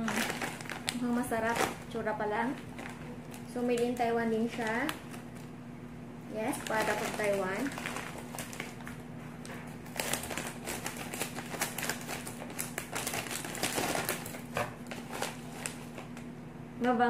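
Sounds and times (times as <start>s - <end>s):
plastic snack bag crinkling: 0.0s - 5.6s, 6.4s - 16.3s.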